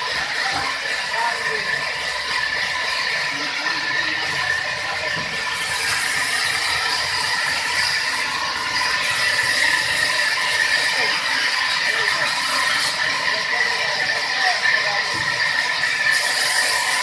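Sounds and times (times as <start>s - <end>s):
saw cutting wood: 0.0s - 17.0s.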